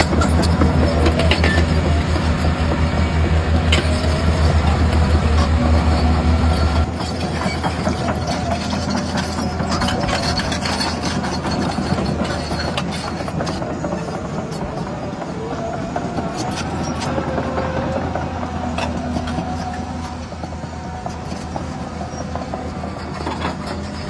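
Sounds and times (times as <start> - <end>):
model truck engine drone: 0.0 - 24.0.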